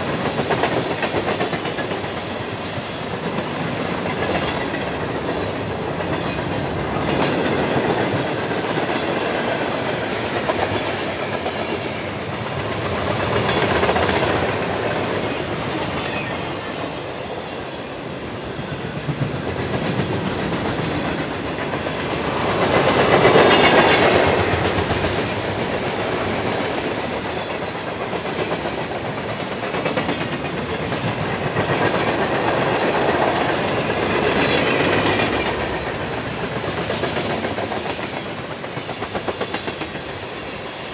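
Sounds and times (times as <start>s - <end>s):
freight train rolling past: 0.0s - 40.9s.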